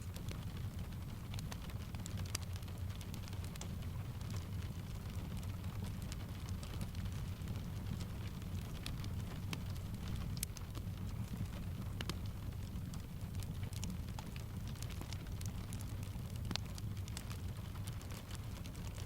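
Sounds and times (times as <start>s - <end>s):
fire crackling: 0.0s - 19.0s
steady rain: 0.0s - 19.0s.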